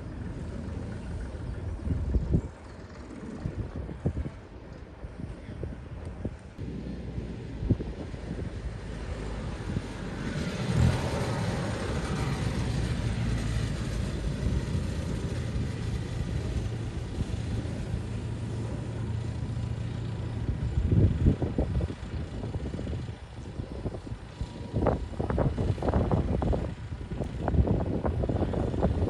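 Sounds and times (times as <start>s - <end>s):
tractor engines humming: 0.0s - 29.0s.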